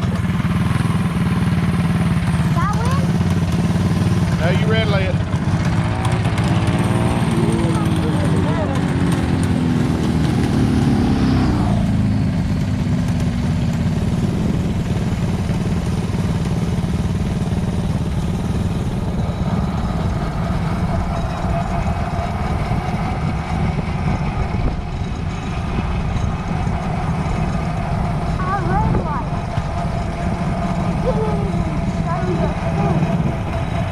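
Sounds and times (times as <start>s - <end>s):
engine low rumble: 0.0s - 33.9s.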